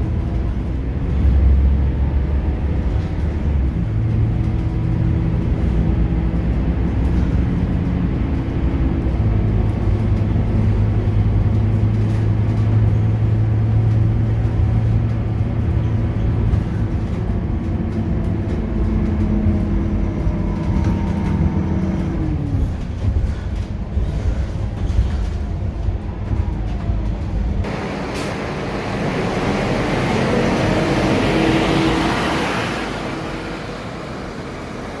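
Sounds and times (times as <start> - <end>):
bus diesel engine drone: 0.0 - 35.0.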